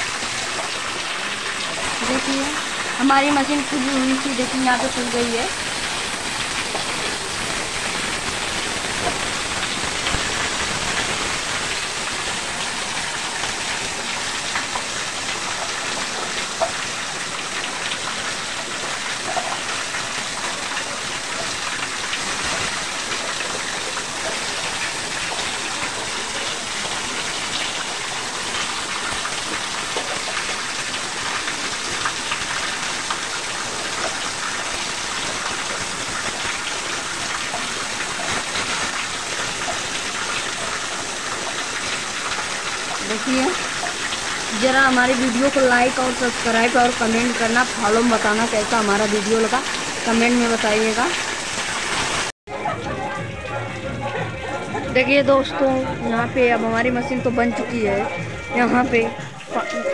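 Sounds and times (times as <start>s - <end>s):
water drips ticking: 0.0s - 52.3s
water splashing down a wall: 0.0s - 52.3s.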